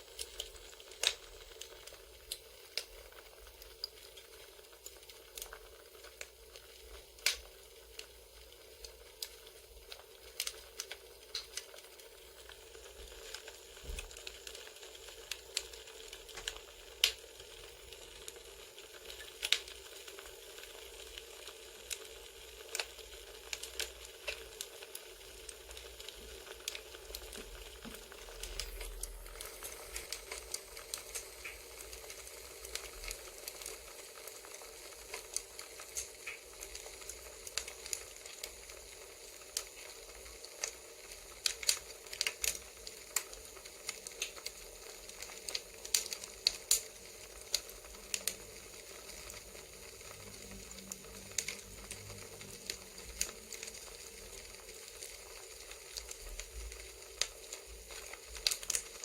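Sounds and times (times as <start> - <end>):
campfire crackling: 0.0 - 59.0
burning wood popping and snapping: 0.1 - 18.3, 19.0 - 20.1, 22.7 - 59.0.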